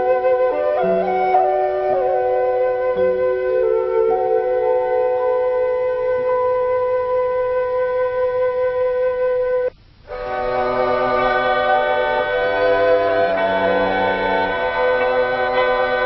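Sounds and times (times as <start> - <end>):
instrumental music of held notes: 0.0 - 16.0.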